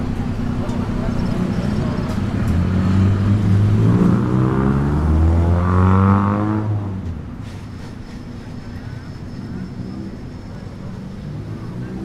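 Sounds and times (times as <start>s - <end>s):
vehicle engine accelerating: 0.0s - 8.6s, 9.2s - 12.0s.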